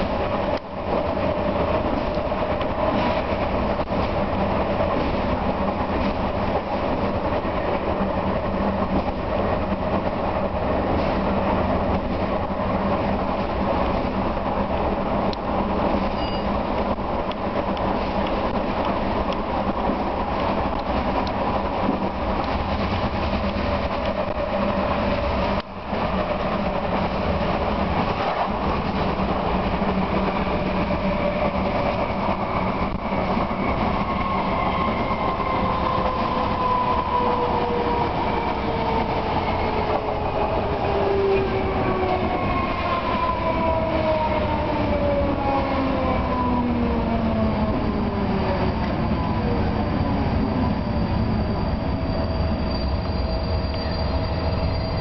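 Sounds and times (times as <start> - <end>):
diesel locomotive engine hum: 0.0 - 55.0
wheel and rail noise: 0.0 - 55.0.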